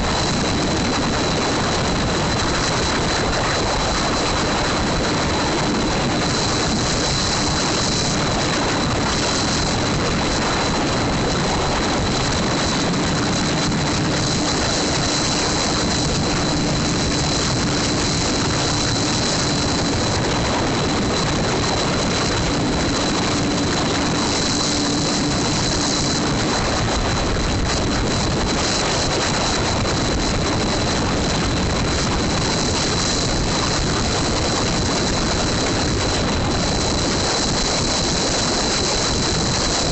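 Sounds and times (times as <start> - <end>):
low hum: 0.0 - 39.9
steady high whine: 0.0 - 39.9.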